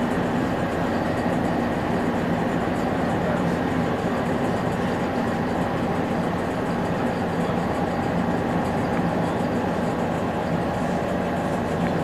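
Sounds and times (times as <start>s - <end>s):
diesel engine hum: 0.0s - 12.0s
train wheels rolling on rails: 0.0s - 12.0s.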